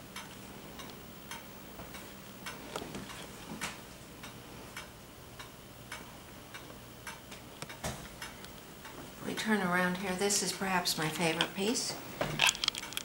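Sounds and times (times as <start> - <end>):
low room hum: 0.0 - 13.0
faint ticking clicks: 0.1 - 11.8.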